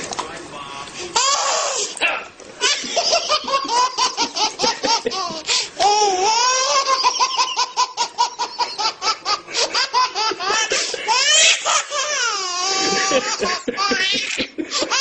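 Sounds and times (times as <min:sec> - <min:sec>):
baby laughing: 0:02.6 - 0:15.0.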